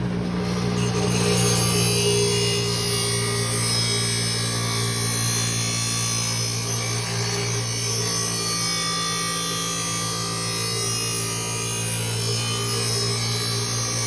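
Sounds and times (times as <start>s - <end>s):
bench grinder motor humming: 0.0s - 14.0s
blade grinding on wheel: 0.0s - 14.0s.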